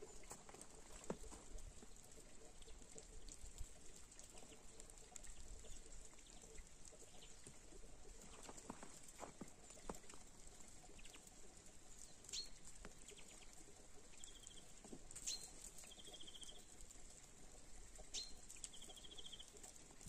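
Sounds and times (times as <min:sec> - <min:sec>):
snow dripping ticks: 0:00.0 - 0:20.0.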